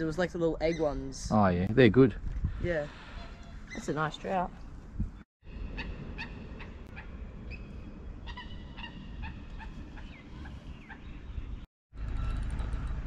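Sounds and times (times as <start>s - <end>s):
wind on microphone: 0.8s - 3.9s, 4.5s - 13.0s.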